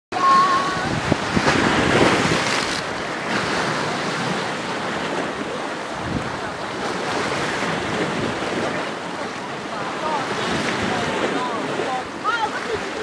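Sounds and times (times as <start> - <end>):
sea waves washing and lapping: 0.1 - 13.0
wind buffeting microphone: 0.1 - 13.0.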